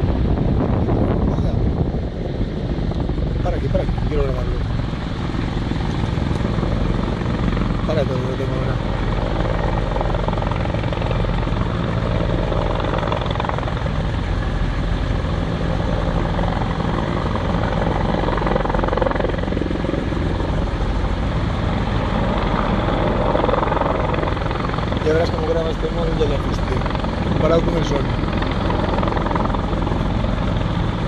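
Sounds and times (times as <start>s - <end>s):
helicopter rotor and turbine: 0.0s - 31.0s.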